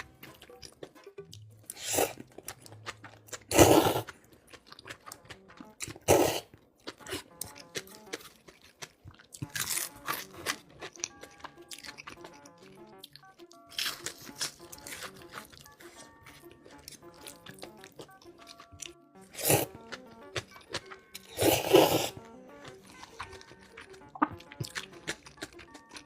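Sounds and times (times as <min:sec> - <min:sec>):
crunching bites: 0:00.0 - 0:26.0
faint background music: 0:00.0 - 0:26.0.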